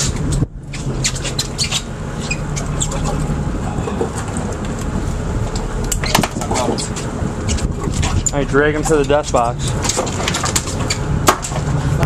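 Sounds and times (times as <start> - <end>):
boat engine humming: 0.0 - 12.0
water noise: 0.0 - 12.0
wind: 0.0 - 12.0.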